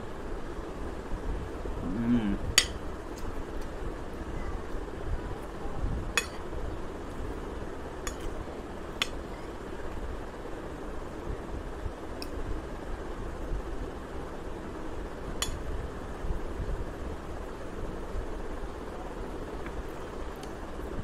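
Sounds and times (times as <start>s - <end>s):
low room noise: 0.0s - 21.0s.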